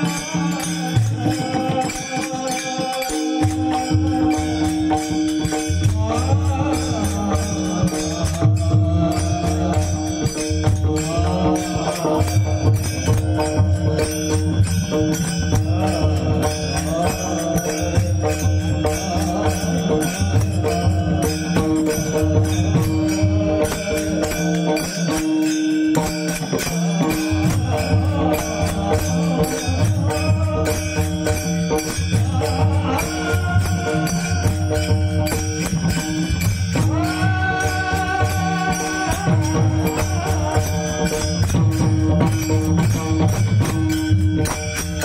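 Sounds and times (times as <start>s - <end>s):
chanted devotional singing: 0.0s - 45.0s
hand cymbals clicking and ringing: 0.0s - 45.0s.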